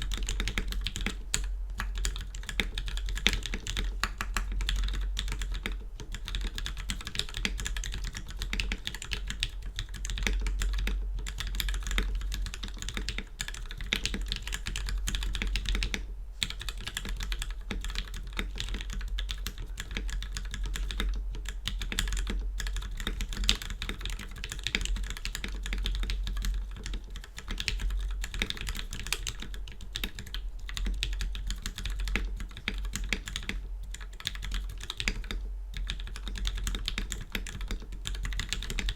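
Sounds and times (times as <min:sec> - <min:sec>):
mechanical keyboard typing: 0:00.0 - 0:38.9
steady low hum: 0:00.0 - 0:38.9.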